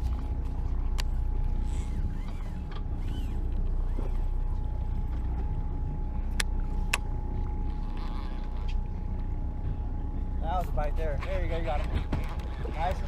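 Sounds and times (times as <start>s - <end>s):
boat engine rumbling: 0.0s - 13.0s
faint steady whine: 0.0s - 13.0s.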